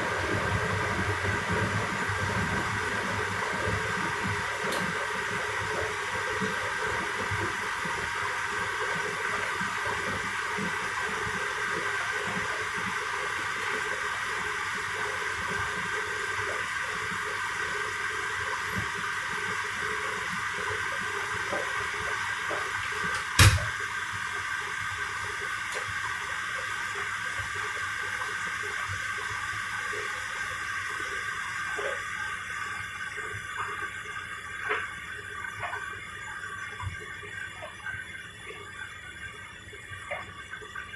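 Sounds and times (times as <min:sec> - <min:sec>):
water hissing into washer drums: 0:00.0 - 0:40.9.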